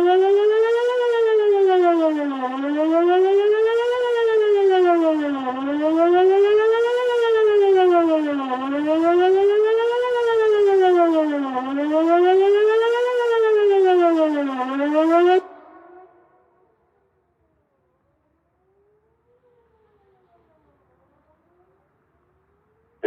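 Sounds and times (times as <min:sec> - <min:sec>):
emergency siren wailing: 0:00.0 - 0:23.0.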